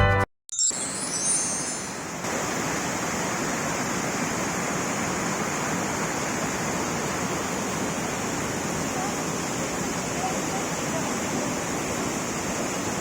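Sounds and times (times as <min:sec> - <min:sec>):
waterfall roaring: 0:00.8 - 0:13.0.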